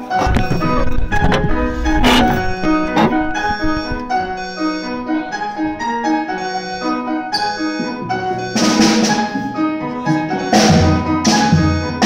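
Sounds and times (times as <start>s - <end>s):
grand piano melody: 0.0s - 12.0s.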